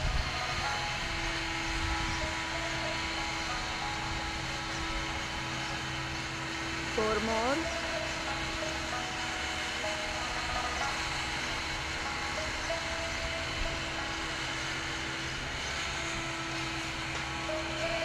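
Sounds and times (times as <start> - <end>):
soft music with long held notes: 0.0 - 18.0
steady rushing noise: 0.0 - 18.0.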